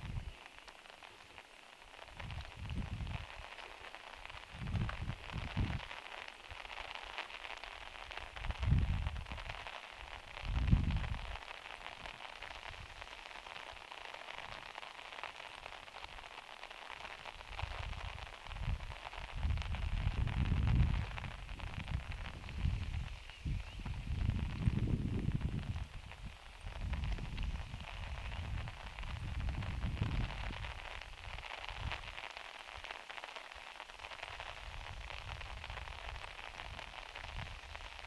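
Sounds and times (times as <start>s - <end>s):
rain on a metal roof: 0.0s - 38.0s.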